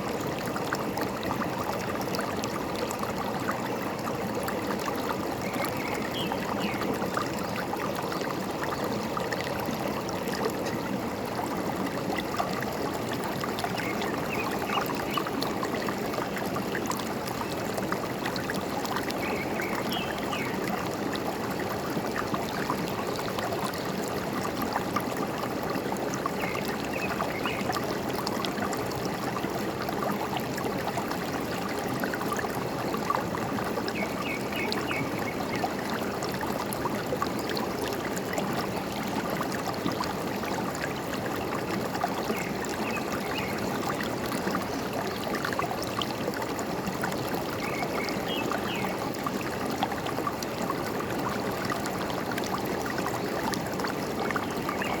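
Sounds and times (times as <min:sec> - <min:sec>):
forest stream trickling: 0:00.0 - 0:55.0.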